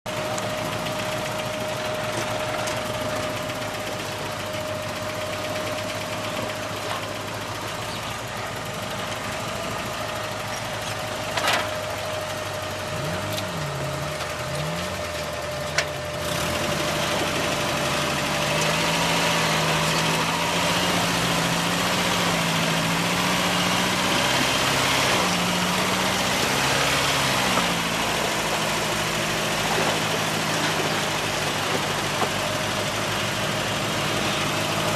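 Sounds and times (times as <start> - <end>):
off-road vehicle engine revving: 0.1 - 34.9.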